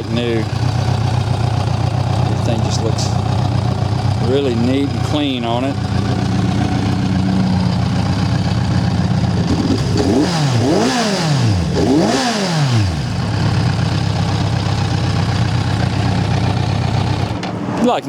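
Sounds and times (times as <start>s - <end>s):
motorcycle engine idling and revving: 0.0s - 17.8s.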